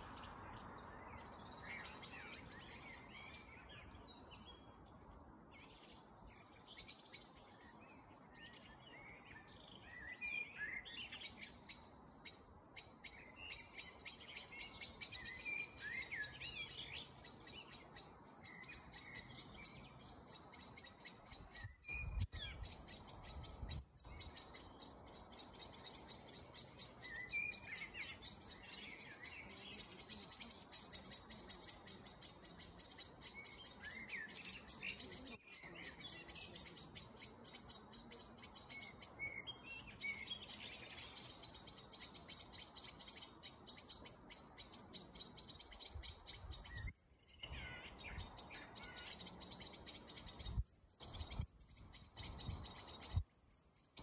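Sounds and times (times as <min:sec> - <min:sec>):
songbirds chirping and warbling: 0:00.0 - 0:54.0.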